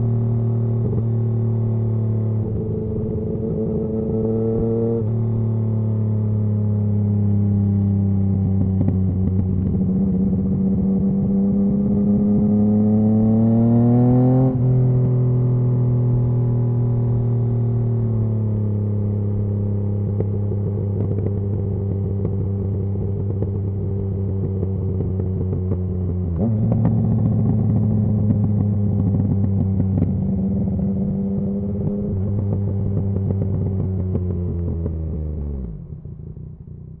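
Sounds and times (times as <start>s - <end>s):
motorcycle engine revving: 7.1s - 37.0s.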